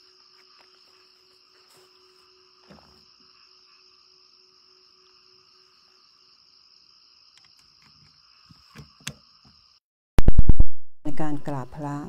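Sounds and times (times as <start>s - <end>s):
insects chirring: 0.0s - 9.8s.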